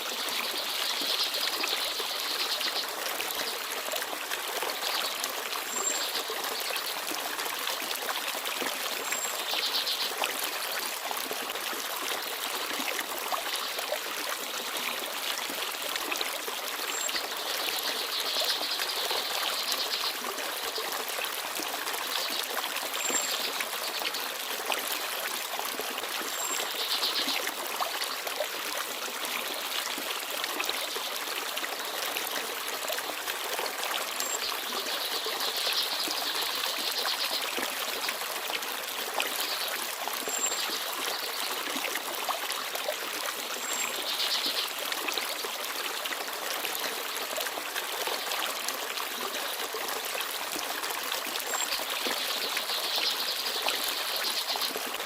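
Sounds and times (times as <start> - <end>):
stream babbling and trickling: 0.0 - 55.0.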